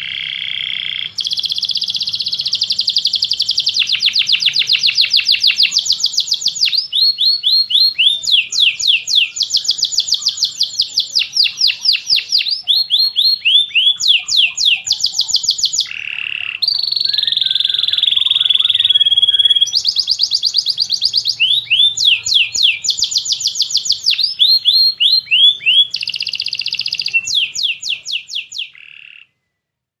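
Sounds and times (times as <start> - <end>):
canary singing trills: 0.0 - 29.4.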